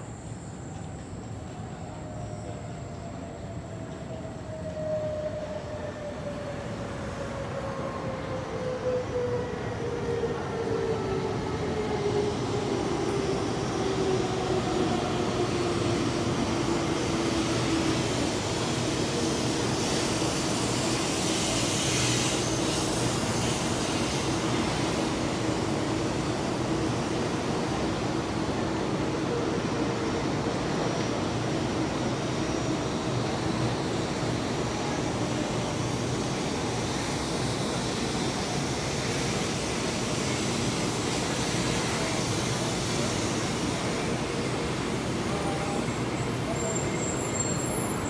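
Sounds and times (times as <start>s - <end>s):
rush of train cars passing: 3.6s - 48.0s.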